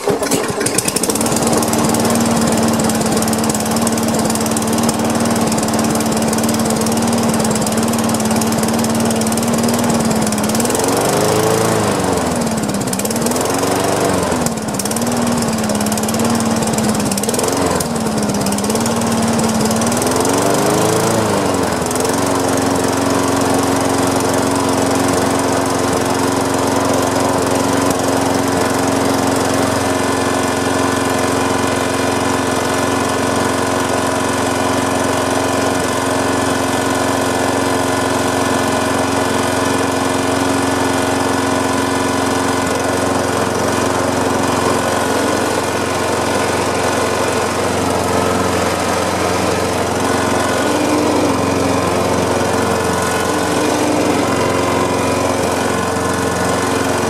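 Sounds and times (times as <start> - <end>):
lawn mower engine surging: 0.0 - 57.0.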